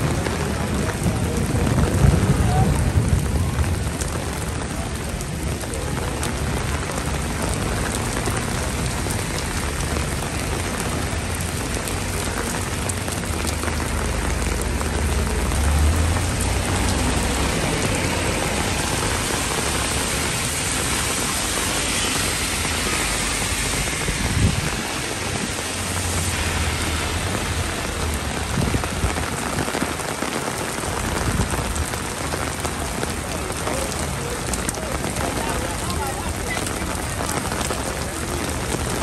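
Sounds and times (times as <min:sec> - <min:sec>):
heavy rain on pavement: 0:00.0 - 0:39.0
passing buses and cars: 0:00.0 - 0:39.0.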